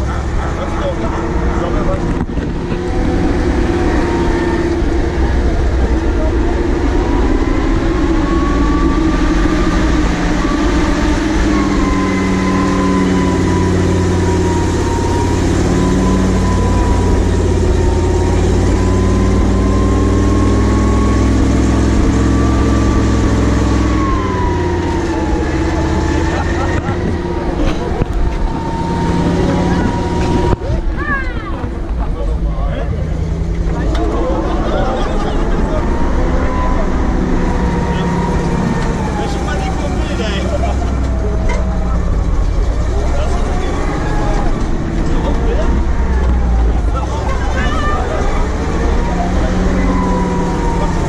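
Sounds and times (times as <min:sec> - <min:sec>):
high whine: 0:00.0 - 0:51.0
truck engine drone: 0:00.0 - 0:51.0.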